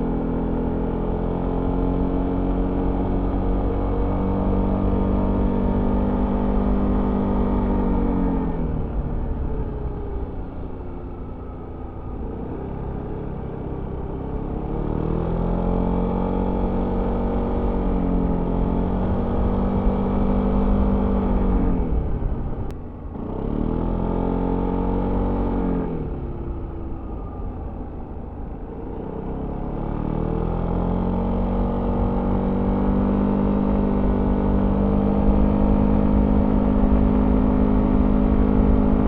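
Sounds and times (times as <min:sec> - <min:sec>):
scooter engine while riding: 0:00.0 - 0:39.0.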